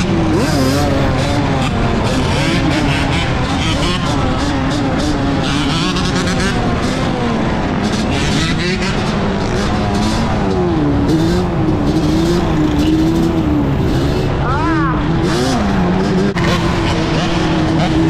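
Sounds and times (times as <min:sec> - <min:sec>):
two-stroke quad engine revving: 0:00.0 - 0:18.0.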